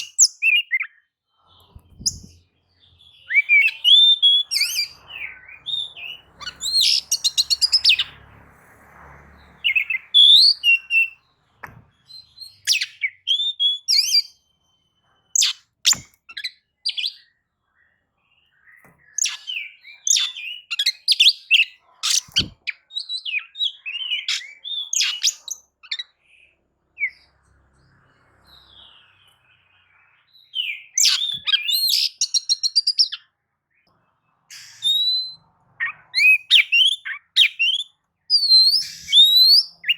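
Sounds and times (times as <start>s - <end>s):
songbird singing: 0.0s - 8.4s, 9.0s - 39.9s.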